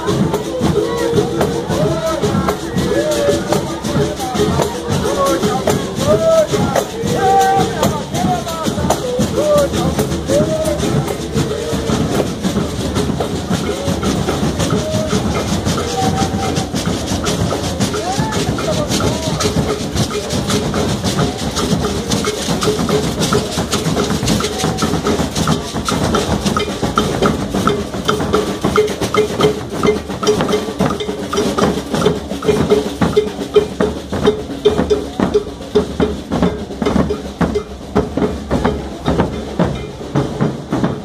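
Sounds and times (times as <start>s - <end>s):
crowd noise: 0.0s - 41.0s
drum group beating fast rhythm: 0.0s - 41.0s.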